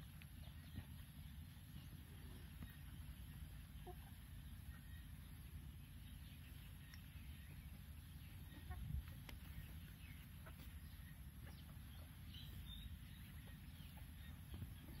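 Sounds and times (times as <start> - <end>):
chickens clucking softly: 0.0 - 15.0.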